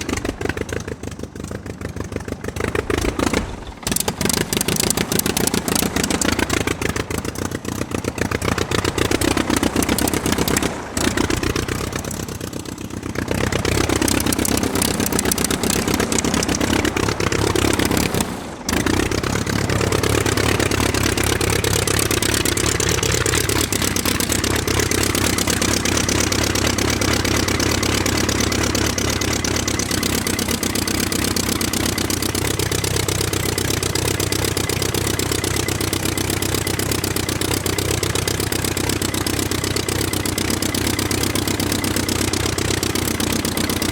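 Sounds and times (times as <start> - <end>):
car engine revving: 2.5 - 39.9.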